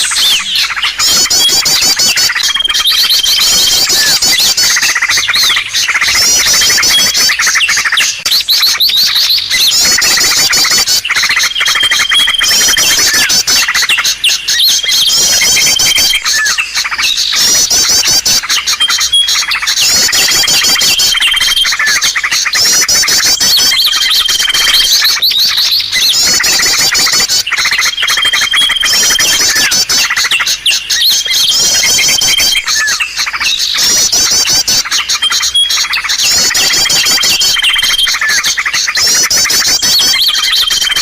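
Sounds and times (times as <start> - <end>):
songbirds chirping and twittering: 0.0 - 41.0.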